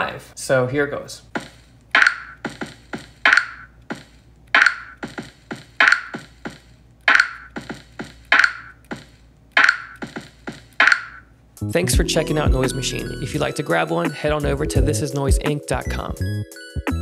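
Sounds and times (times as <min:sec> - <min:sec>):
sampled drum beat: 0:01.3 - 0:15.6.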